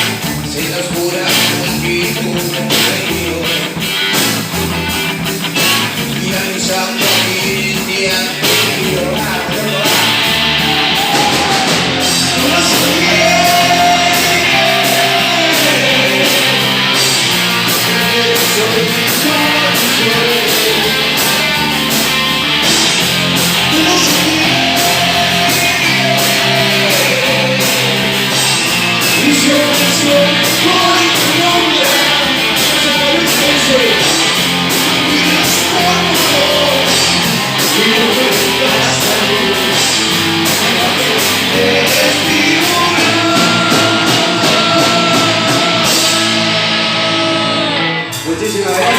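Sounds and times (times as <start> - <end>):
person singing: 0.0 - 4.0, 5.6 - 48.9
rock band playing live: 0.0 - 48.9.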